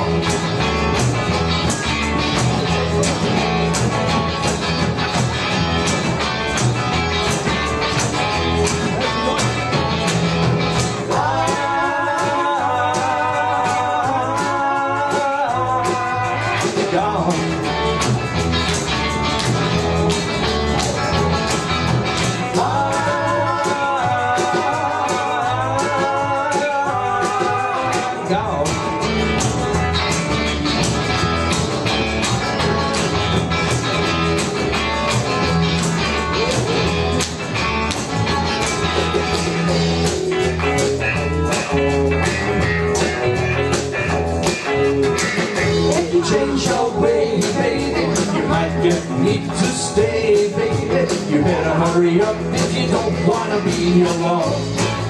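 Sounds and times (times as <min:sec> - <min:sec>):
live band playing instrumental: 0:00.0 - 0:55.0.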